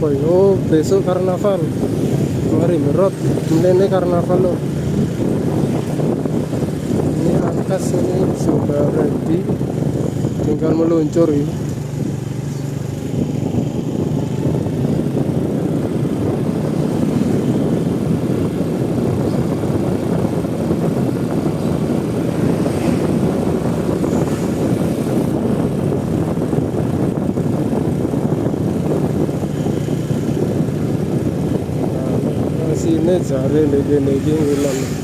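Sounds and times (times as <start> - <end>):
road and wind noise: 0.0 - 35.0
vehicle engine running: 0.0 - 35.0.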